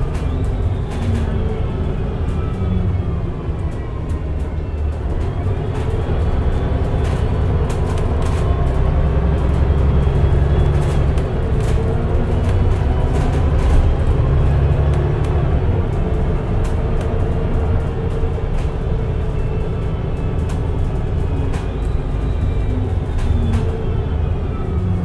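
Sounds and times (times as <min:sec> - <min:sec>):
bus engine drone with whine: 0:00.0 - 0:25.0.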